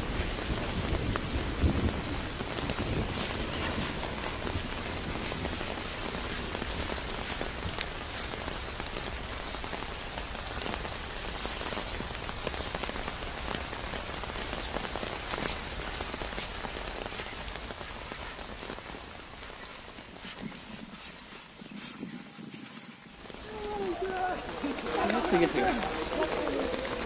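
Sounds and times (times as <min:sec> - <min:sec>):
close raindrops ticking: 0:00.0 - 0:27.0
steady rain falling: 0:00.0 - 0:27.0.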